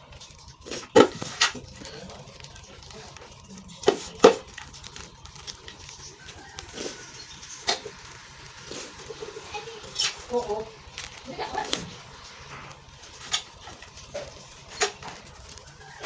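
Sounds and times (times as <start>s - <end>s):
gym chalk crunching: 0.5s - 16.0s.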